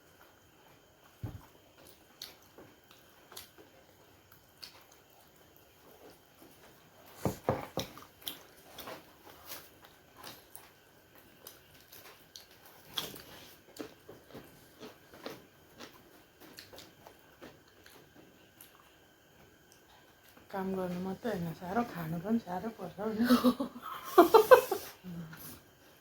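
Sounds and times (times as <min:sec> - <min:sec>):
chewing dumplings: 0:00.1 - 0:21.1.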